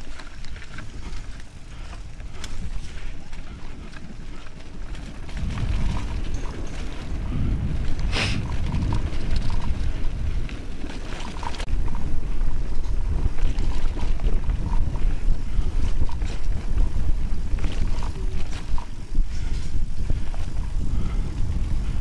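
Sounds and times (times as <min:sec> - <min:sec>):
bike knocking and rattling: 0:00.0 - 0:22.0
bike tyres rumbling: 0:00.0 - 0:22.0
wind buffeting microphone: 0:00.0 - 0:22.0.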